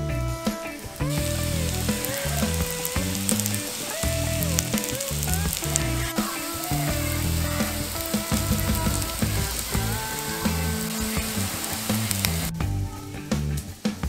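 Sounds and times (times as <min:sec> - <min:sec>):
food sizzling in a pan: 0:00.5 - 0:12.5.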